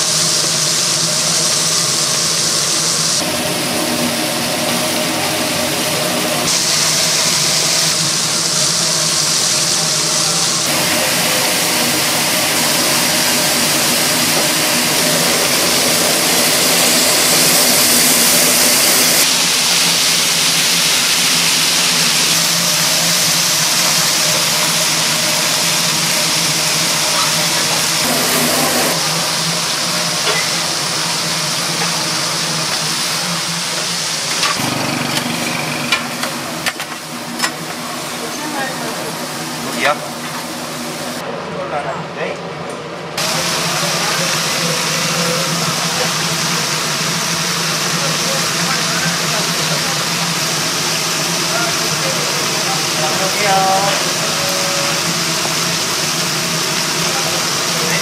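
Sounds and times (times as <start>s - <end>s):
grilling equipment roar: 0.0s - 41.3s, 43.2s - 58.0s.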